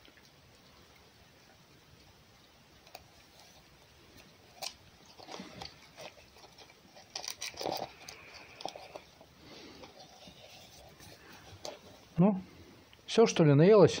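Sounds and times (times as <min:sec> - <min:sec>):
fox chewing and crunching food: 0:00.0 - 0:13.1.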